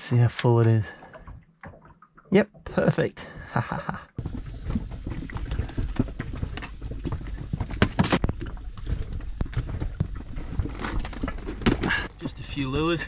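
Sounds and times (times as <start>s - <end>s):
water slapping boat hull: 0.0s - 13.0s.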